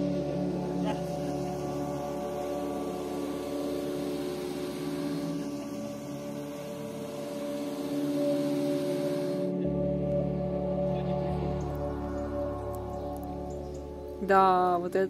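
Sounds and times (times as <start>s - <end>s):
ambient music with layered tones: 0.0s - 15.0s.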